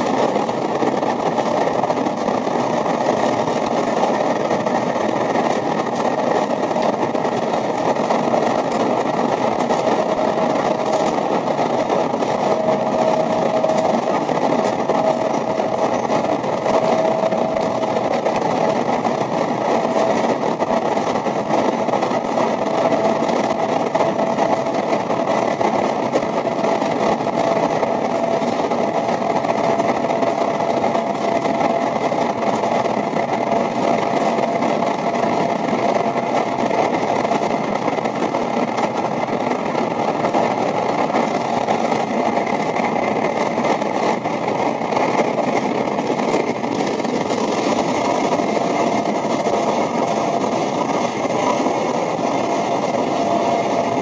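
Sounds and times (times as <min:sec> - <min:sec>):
train rumbling through tunnel: 0:00.0 - 0:54.0.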